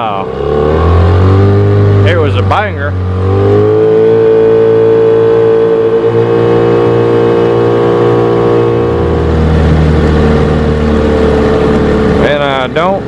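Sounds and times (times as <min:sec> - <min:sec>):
boat motor droning: 0:00.0 - 0:13.0
deeper hum: 0:00.0 - 0:13.0.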